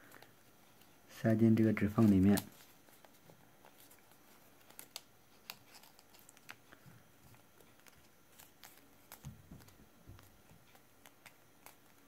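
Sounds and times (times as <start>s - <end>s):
paper rustling and ticking: 0.0s - 12.0s.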